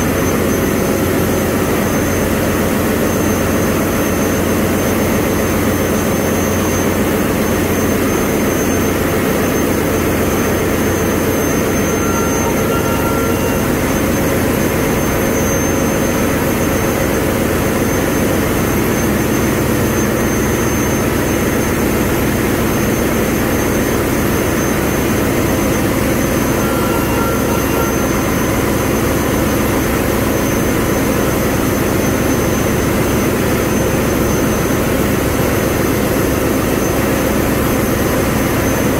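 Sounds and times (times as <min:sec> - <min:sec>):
diesel machinery rumble: 0:00.0 - 0:38.9.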